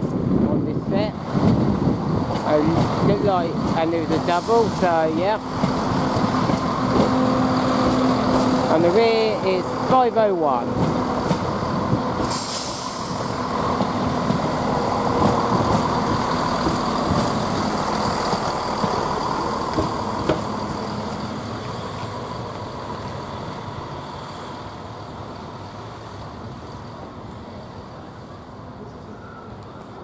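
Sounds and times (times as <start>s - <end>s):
diesel train moving away: 0.0s - 30.0s.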